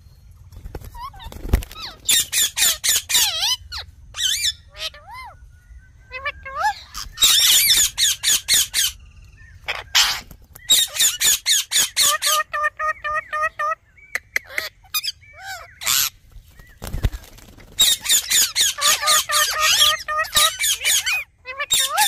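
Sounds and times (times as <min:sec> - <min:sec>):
parakeets screeching: 0:00.8 - 0:16.2, 0:16.8 - 0:22.0.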